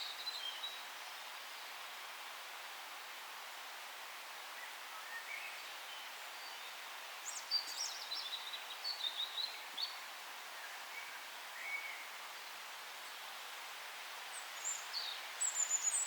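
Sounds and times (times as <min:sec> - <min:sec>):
forest hiss: 0:00.0 - 0:16.0.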